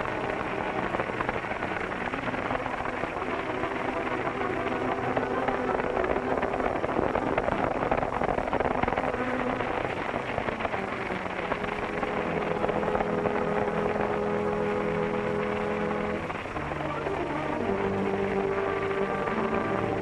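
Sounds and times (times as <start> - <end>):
background music held notes: 0.0 - 20.0
horses galloping hoofbeats: 0.0 - 20.0.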